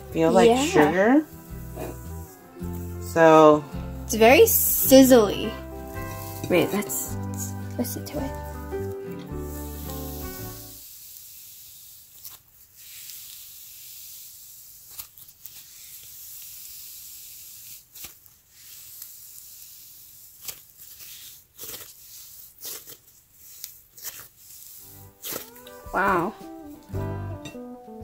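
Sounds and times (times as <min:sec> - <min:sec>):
sand slime worked by hand: 0:00.6 - 0:26.4.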